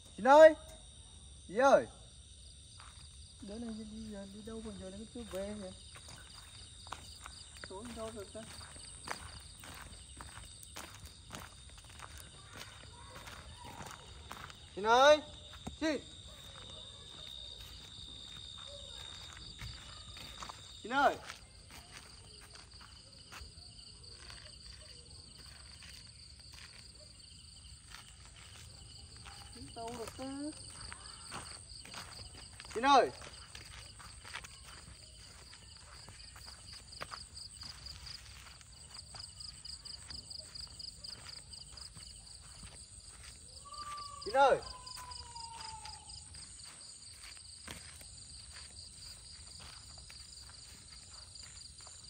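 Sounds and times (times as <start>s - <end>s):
night insects chirring: 0.0s - 52.0s
faint footsteps: 2.7s - 52.0s.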